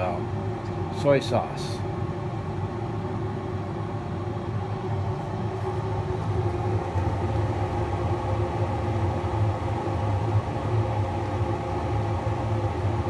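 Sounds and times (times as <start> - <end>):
grill fan hum: 0.0 - 13.0.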